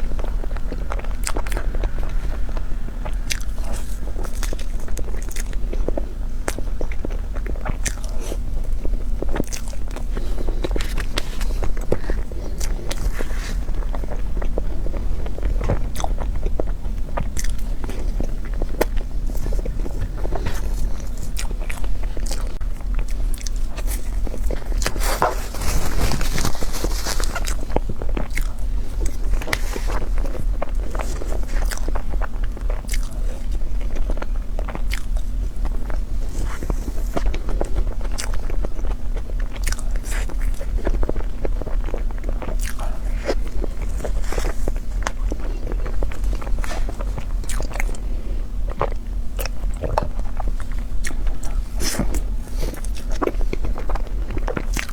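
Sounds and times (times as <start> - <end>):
biting and chewing: 0.0 - 54.9
crunchy rustling: 0.0 - 54.9.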